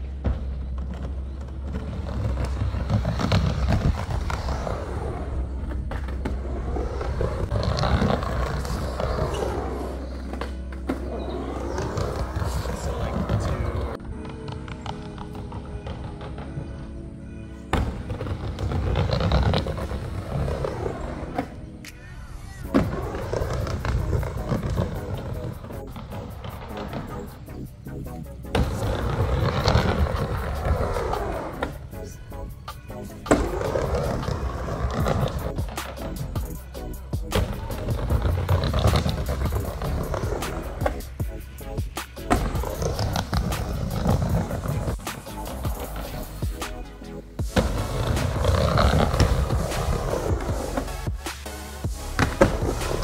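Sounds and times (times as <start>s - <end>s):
skateboard wheels rolling: 0.0s - 53.0s.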